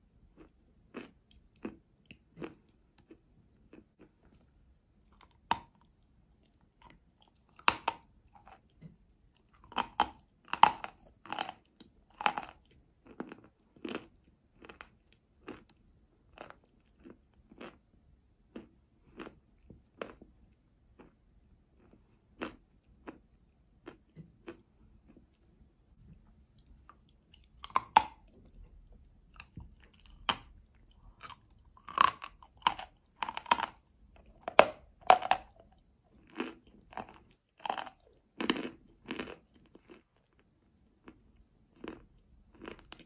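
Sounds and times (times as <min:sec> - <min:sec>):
chewing crunches: 0:00.3 - 0:43.0.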